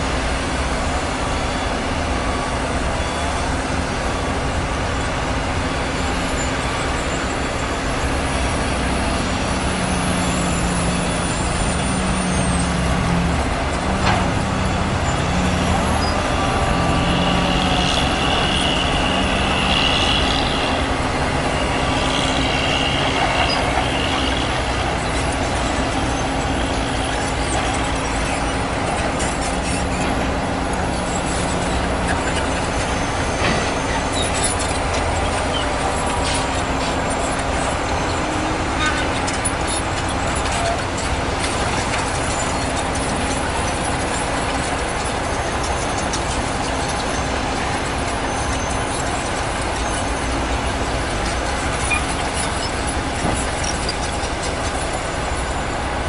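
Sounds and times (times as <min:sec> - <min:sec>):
heavy diesel engines running: 0:00.0 - 0:56.0
high squeal: 0:00.1 - 0:56.0.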